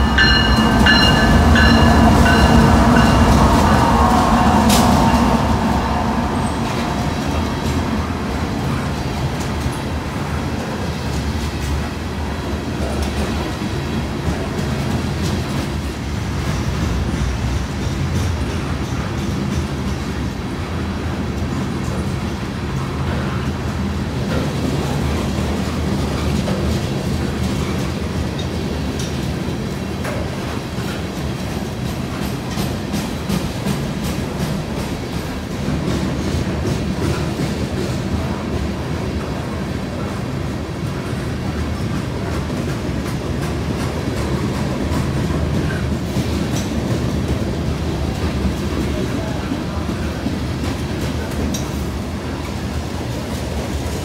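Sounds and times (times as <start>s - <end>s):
freight train wheels rumbling: 0.0s - 54.0s
rail clicks: 0.0s - 54.0s.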